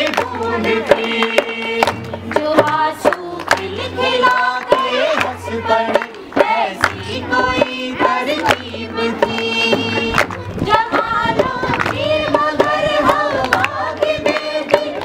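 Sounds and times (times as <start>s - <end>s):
group singing in unison: 0.0s - 15.0s
hand claps: 0.0s - 15.0s.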